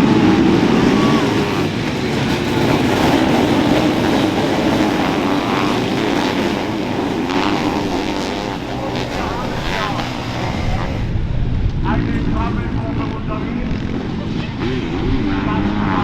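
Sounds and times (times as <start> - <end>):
motocross engines revving: 0.0 - 16.0.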